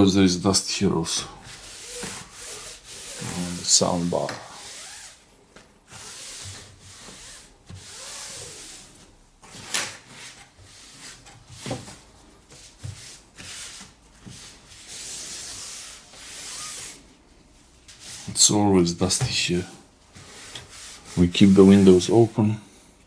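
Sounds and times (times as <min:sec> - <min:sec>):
paper towel rubbing a surface: 0:01.0 - 0:17.2, 0:17.9 - 0:22.4.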